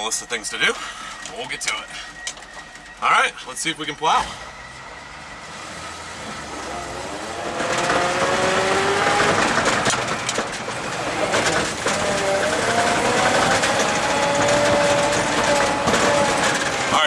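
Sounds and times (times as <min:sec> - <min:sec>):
truck engine and driveline whine: 0:00.0 - 0:17.0.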